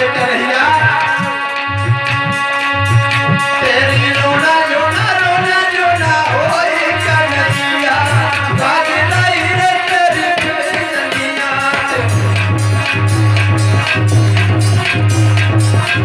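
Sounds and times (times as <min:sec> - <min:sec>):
steady low drum beat: 0:00.0 - 0:16.0.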